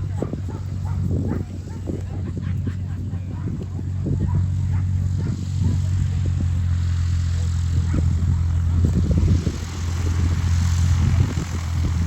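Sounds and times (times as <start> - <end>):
loud low engine drone: 0.0 - 12.0
low rumbles: 0.0 - 12.0.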